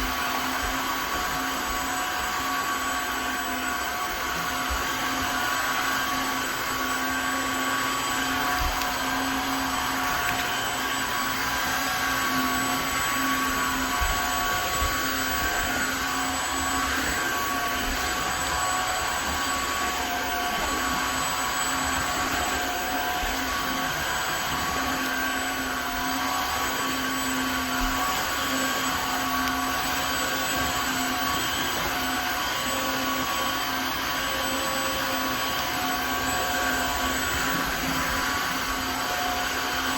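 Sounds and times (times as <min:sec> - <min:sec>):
vacuum mop running: 0:00.0 - 0:39.9.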